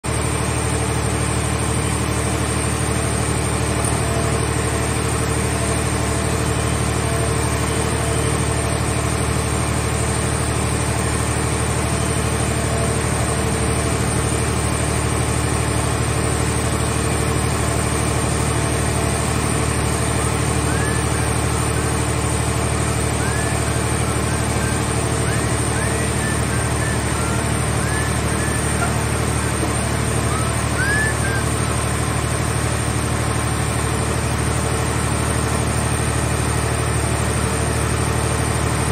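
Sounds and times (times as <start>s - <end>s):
engine and hydraulic pump humming: 0.0s - 38.9s.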